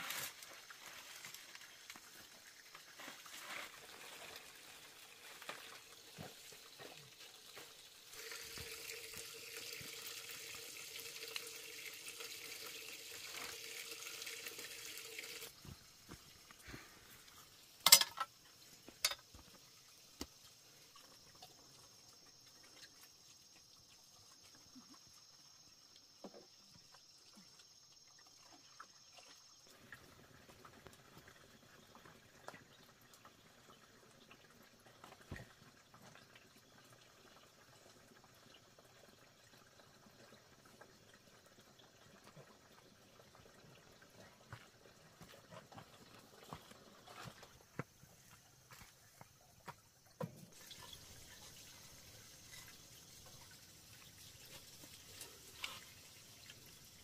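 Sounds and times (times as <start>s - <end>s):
tap water running: 0.5s - 57.0s.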